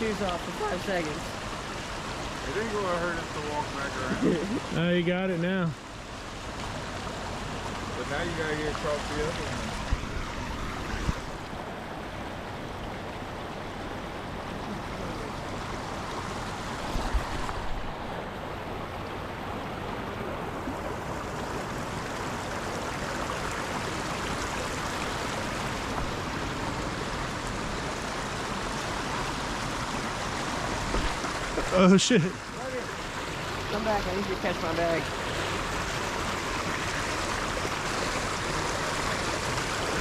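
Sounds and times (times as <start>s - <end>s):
stream rushing over rock: 0.0s - 40.0s.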